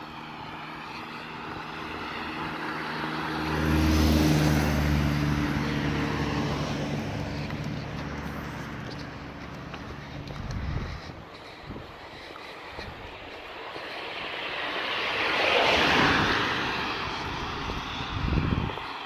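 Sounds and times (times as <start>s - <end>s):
engine drone passing: 0.0s - 19.0s.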